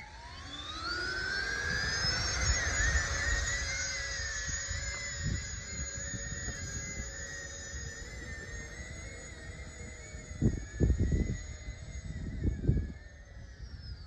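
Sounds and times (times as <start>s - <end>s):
electric ducted fans whining: 0.0s - 14.0s.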